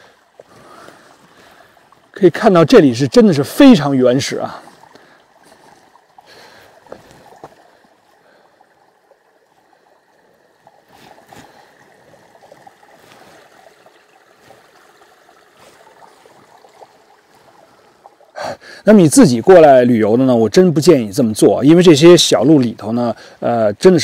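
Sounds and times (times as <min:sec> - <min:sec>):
creek trickling over rocks: 0:00.0 - 0:24.0.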